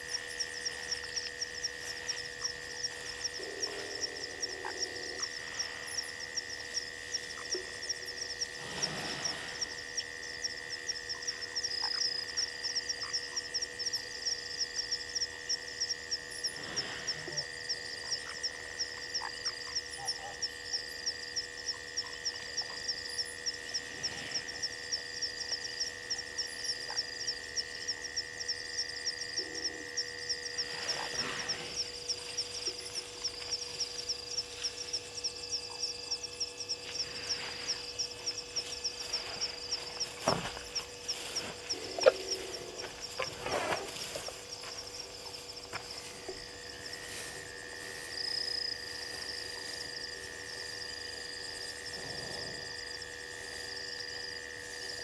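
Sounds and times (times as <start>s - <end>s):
frogs chirping: 0.0s - 55.0s.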